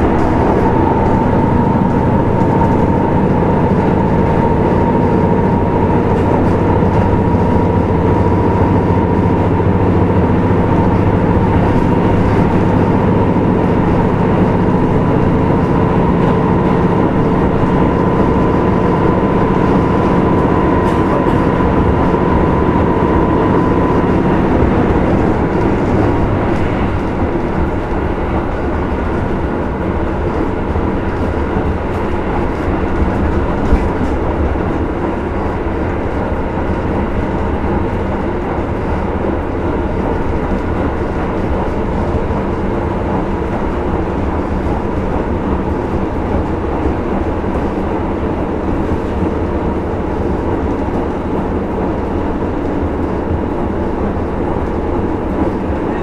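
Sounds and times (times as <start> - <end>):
diesel engine drone: 0.0 - 56.0
wheels rumbling on rail: 0.0 - 56.0.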